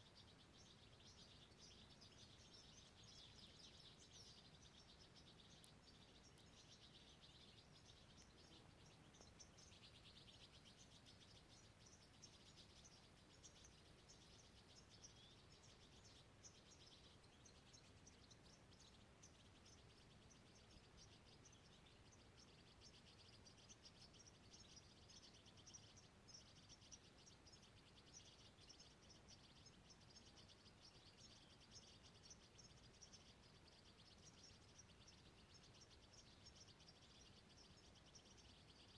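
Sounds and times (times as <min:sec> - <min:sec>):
low hiss: 0:00.0 - 0:38.9.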